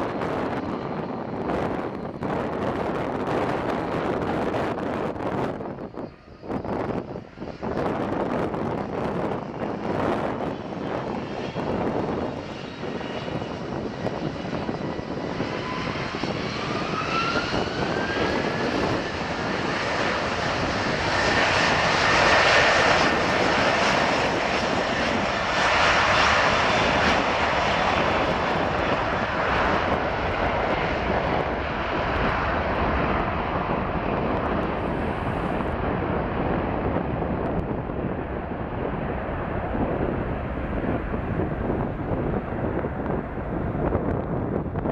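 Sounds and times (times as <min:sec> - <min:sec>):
jet engine whine: 0:00.0 - 0:44.9
jet roar: 0:00.0 - 0:44.9.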